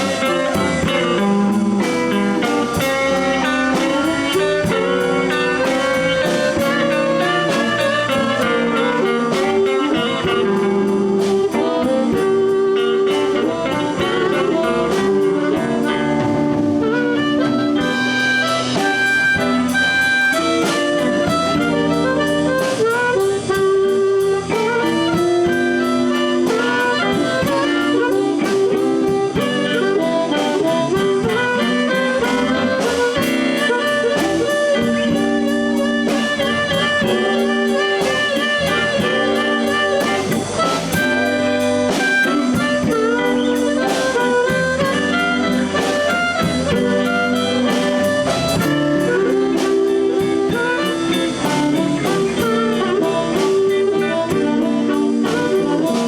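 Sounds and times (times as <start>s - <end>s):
bass guitar: 0.0s - 56.0s
drums keeping a steady beat: 0.0s - 56.0s
electric guitar: 0.0s - 56.0s
harmonica solo: 0.0s - 56.0s.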